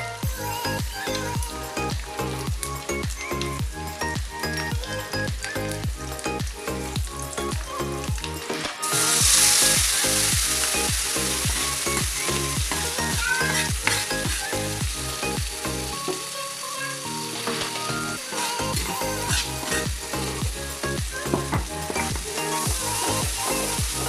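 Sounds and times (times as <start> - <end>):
background music with steady beat: 0.0 - 24.0
food sizzling in hot oil: 0.0 - 24.0.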